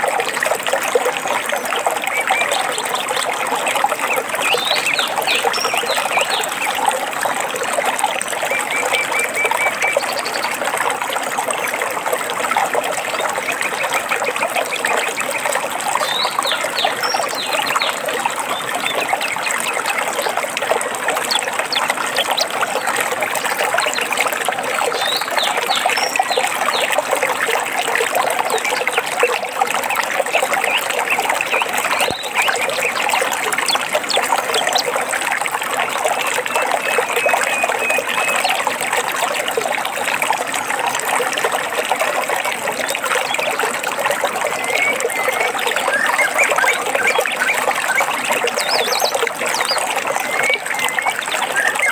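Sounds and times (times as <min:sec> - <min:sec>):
stream babbling: 0:00.0 - 0:51.9.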